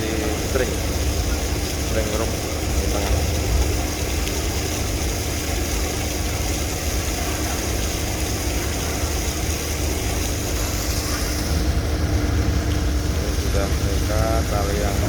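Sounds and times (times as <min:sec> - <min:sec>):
high steady hiss: 0:00.0 - 0:15.0
ship diesel engine rumbling: 0:00.0 - 0:15.0.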